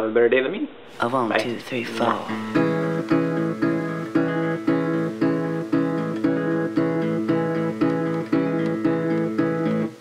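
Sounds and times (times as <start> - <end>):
acoustic guitar strumming: 1.0 - 10.0.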